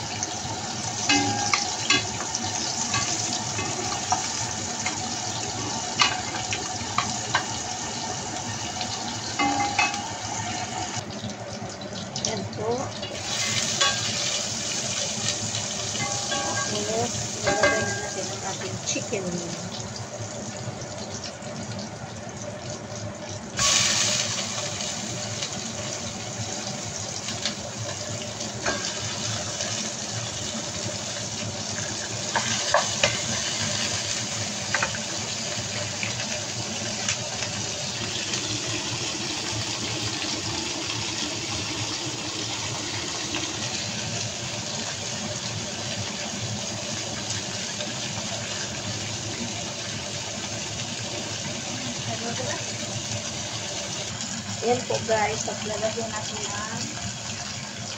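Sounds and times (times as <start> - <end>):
chicken sizzling in hot oil: 0.0 - 57.9.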